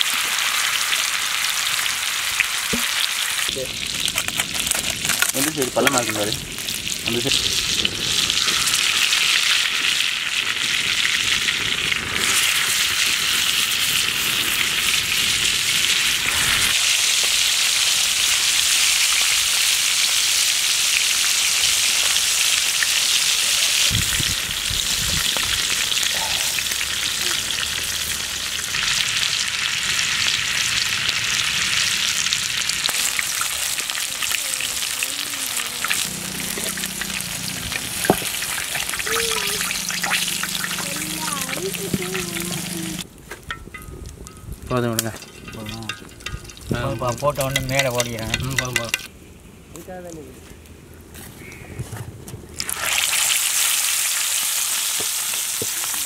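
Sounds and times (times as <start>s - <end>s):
chicken sizzling in a pan: 0.0s - 43.1s, 52.6s - 56.0s.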